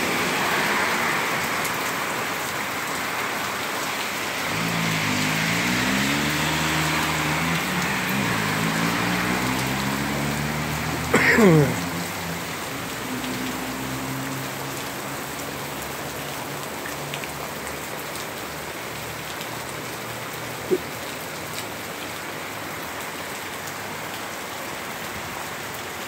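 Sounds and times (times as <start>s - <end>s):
heavy rain on pavement: 0.0s - 26.0s.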